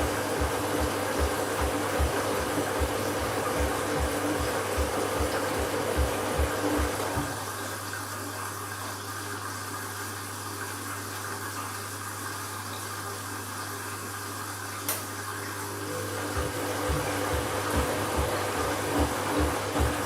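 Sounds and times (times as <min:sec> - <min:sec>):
water filling washing machine drum: 0:00.0 - 0:20.0.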